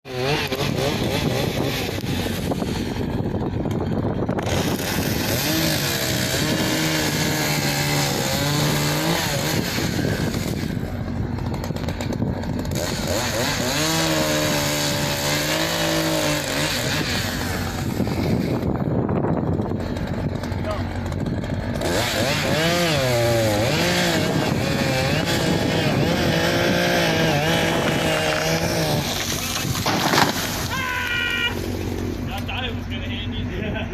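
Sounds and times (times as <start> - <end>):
chainsaw cutting wood: 0.1 - 32.6.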